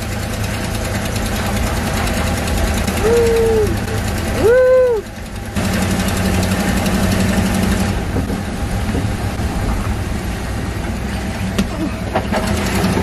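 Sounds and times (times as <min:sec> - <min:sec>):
engine drone with road noise: 0:00.0 - 0:13.0.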